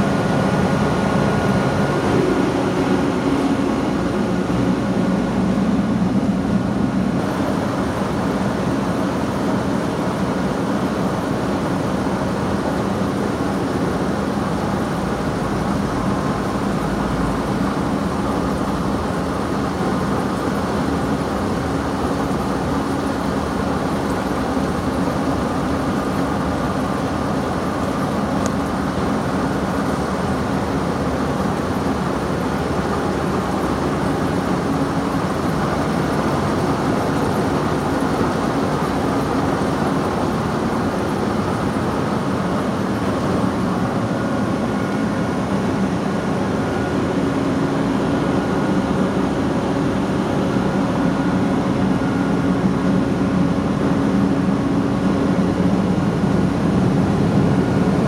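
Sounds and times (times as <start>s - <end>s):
large diesel engine running: 0.0s - 58.0s.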